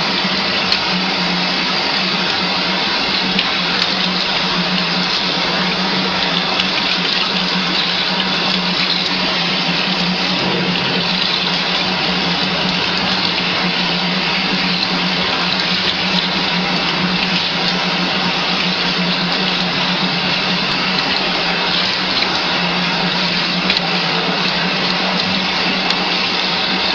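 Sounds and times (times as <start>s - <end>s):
tap water running into sink: 0.0s - 26.9s
water splashing on plastic container: 0.0s - 26.9s.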